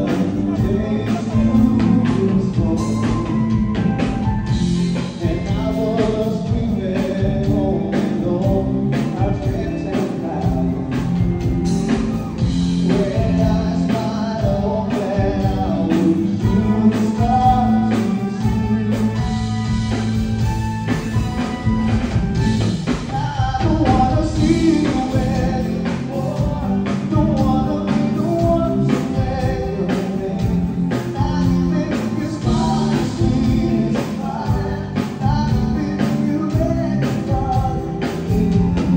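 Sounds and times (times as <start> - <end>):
person singing: 0.0 - 4.1, 4.8 - 11.3, 12.1 - 20.2, 22.9 - 38.9
live rock band playing: 0.0 - 38.9.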